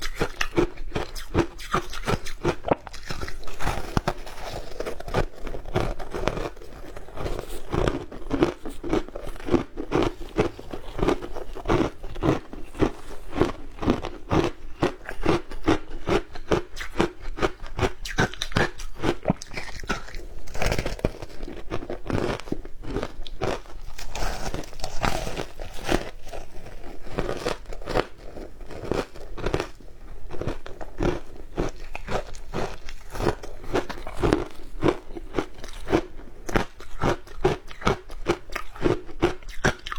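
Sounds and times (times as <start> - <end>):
shaved ice being chewed: 0.0 - 39.9.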